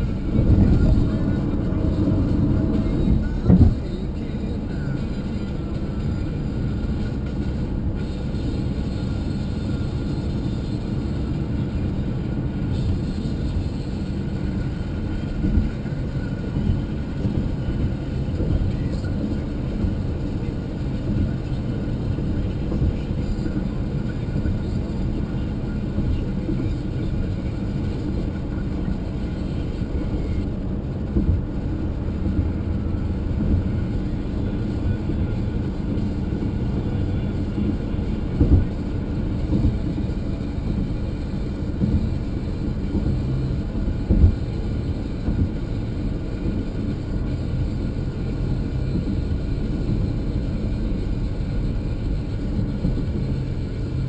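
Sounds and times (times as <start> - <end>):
road and engine noise: 0.0 - 54.0.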